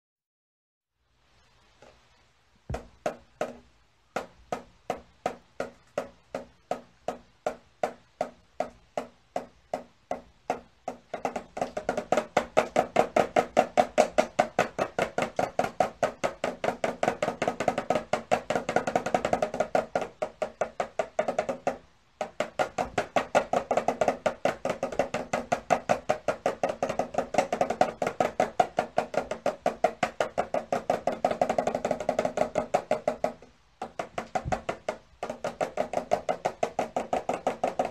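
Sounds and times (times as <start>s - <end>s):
toy snare drum tapped: 2.7s - 37.9s.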